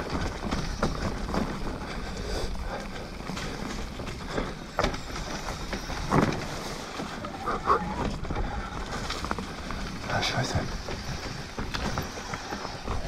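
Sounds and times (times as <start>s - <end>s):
bike knocks and rattles: 0.0s - 13.0s
tyre and wind noise: 0.0s - 13.0s.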